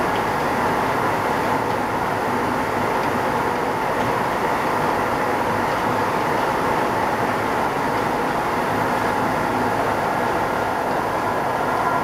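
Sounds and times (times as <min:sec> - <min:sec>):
electric train running noise: 0:00.0 - 0:12.0.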